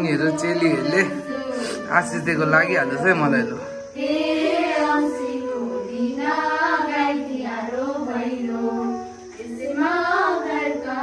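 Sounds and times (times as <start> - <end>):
girls and women singing together: 0.0 - 11.0.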